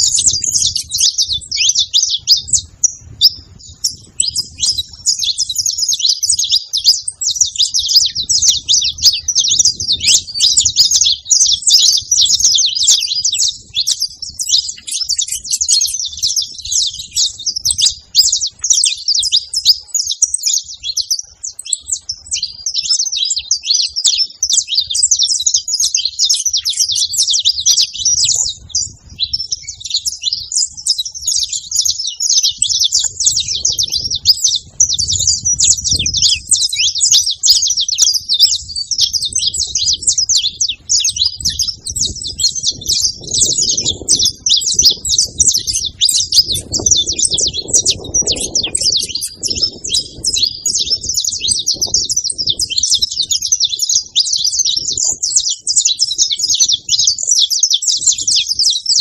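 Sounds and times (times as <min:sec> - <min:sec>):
finches chirping and singing: 0:00.0 - 0:59.0.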